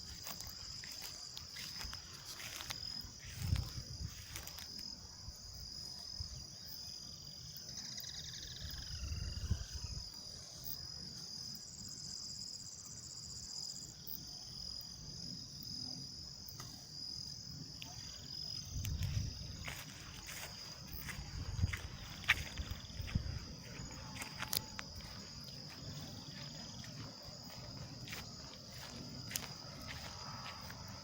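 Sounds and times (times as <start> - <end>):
crickets and insects chirring: 0.0 - 31.0
pulsing insect trill: 0.0 - 31.0.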